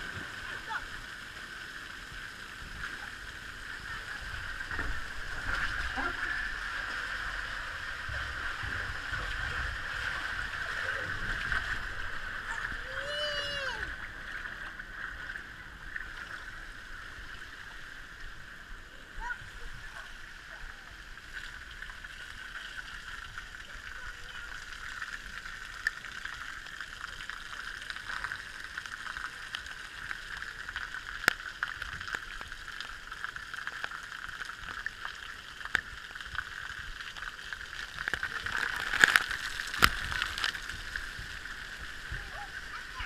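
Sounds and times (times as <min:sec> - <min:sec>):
running and splashing water: 0:00.0 - 0:43.0.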